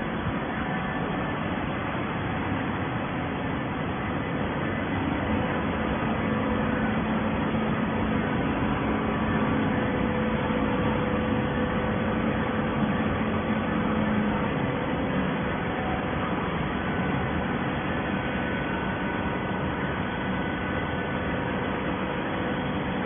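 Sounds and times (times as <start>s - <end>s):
hydraulic baler humming: 0.0s - 23.0s.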